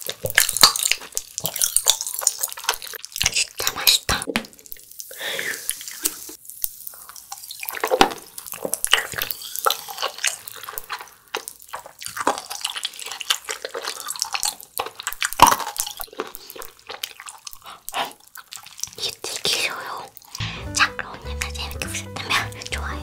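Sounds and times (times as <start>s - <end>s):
chewing and wet mouth sounds: 0.0s - 23.0s.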